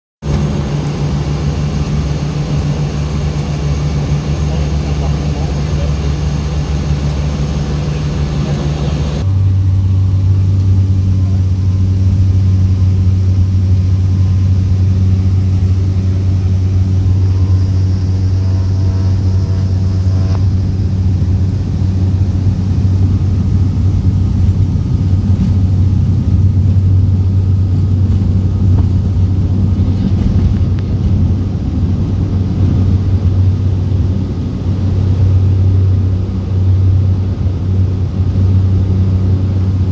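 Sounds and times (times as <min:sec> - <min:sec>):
turboprop airplane at take-off power: 0:00.2 - 0:39.9.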